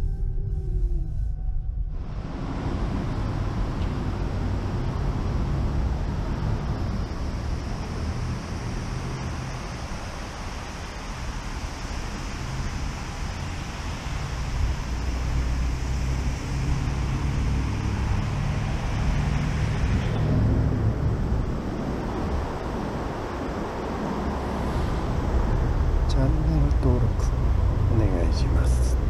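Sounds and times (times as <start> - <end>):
rushing noise with low rumble: 0.0 - 29.0.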